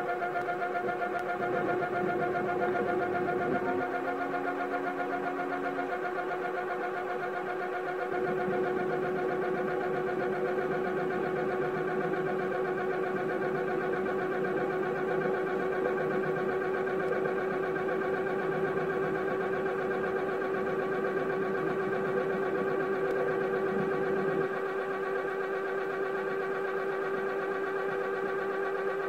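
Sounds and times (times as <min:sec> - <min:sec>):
electric motor whirring hum: 0:00.0 - 0:29.0.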